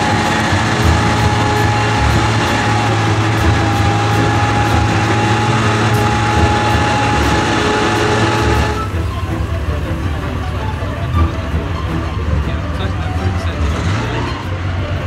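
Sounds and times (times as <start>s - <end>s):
high whine: 0.0s - 14.0s
steel tracks clattering: 0.0s - 15.0s
tank engine droning: 0.0s - 15.0s.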